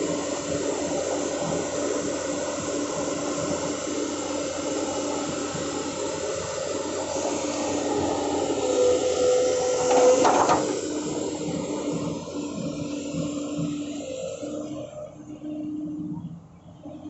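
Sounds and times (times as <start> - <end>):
excavator engine and hydraulics: 0.0 - 17.0
steady whine: 0.0 - 17.0.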